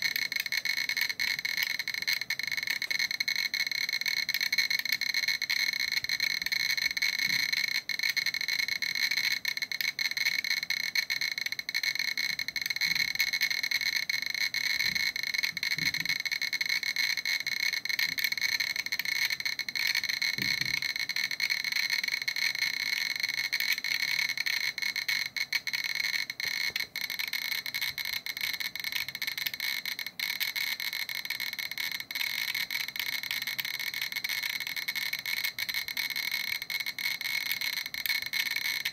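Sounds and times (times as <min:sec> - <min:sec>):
geiger counter rapid clicking: 0:00.0 - 0:38.9.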